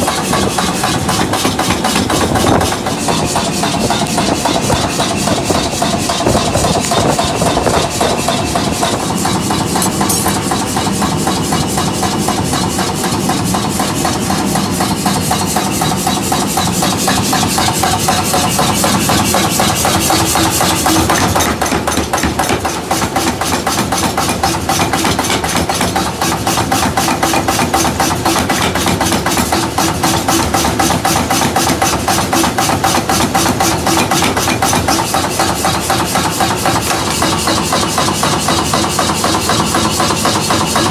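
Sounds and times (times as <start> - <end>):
workshop machinery knocking rhythmically: 0.0 - 40.9.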